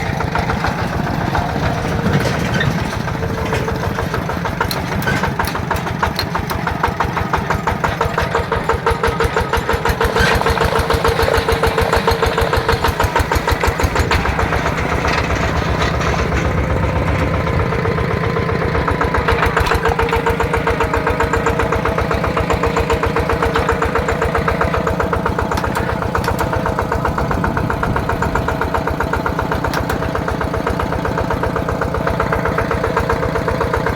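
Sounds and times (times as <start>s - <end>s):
diesel engine chugging: 0.0s - 33.9s.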